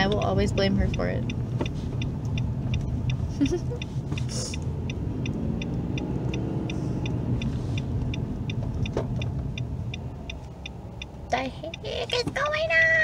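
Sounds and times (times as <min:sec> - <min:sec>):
engine and road rumble: 0:00.0 - 0:13.0
turn signal ticking: 0:00.0 - 0:13.0.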